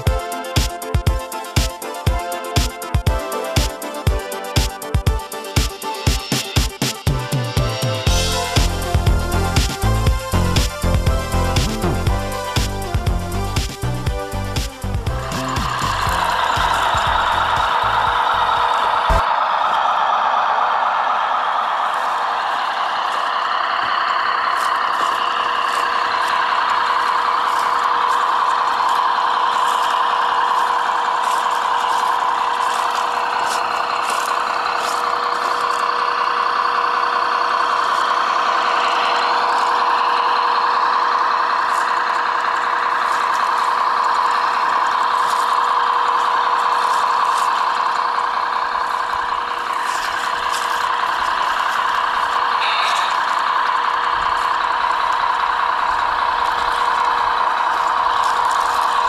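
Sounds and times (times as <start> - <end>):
constant hum: 0.0 - 59.0
model truck motor drone: 0.0 - 59.0.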